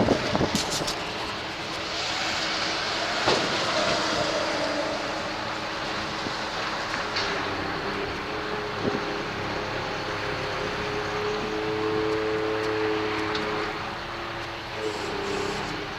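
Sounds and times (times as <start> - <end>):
truck diesel engine running: 0.0 - 15.9.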